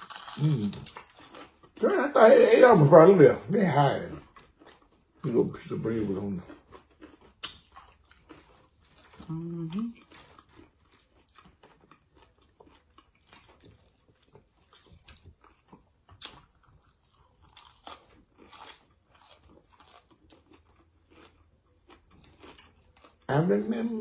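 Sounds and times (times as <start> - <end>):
people chewing crisp food: 0.0 - 24.0.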